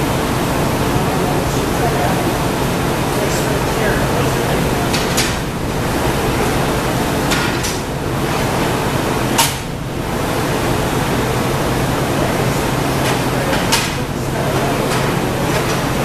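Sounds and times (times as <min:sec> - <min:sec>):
fans and equipment humming: 0:00.0 - 0:16.0.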